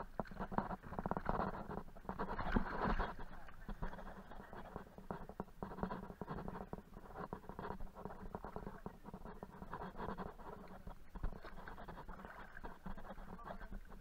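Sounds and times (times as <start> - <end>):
rustling and scratching on microphone: 0.0 - 14.0
small irregular clicks: 0.0 - 14.0.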